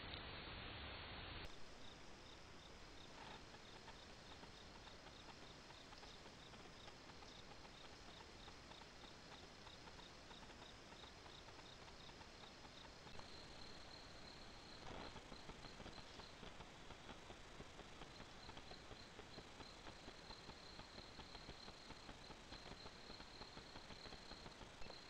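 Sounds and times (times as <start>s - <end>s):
quiet hiss: 0.0s - 25.0s
cricket chirping: 1.5s - 25.0s.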